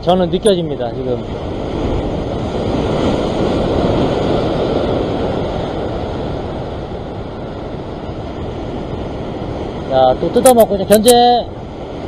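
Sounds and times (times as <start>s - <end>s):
surf washing over rocks: 0.0s - 12.0s
wind on microphone: 0.0s - 12.0s.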